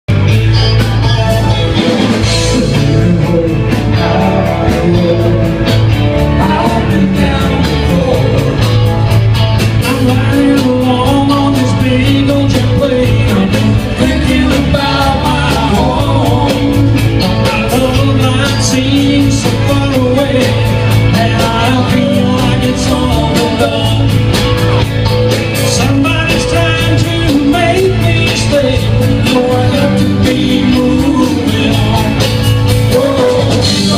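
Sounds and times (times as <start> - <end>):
rock band playing: 0.1 - 33.9
steady drum beat: 0.1 - 33.9
person singing: 0.8 - 8.9, 9.7 - 24.4, 25.6 - 33.9.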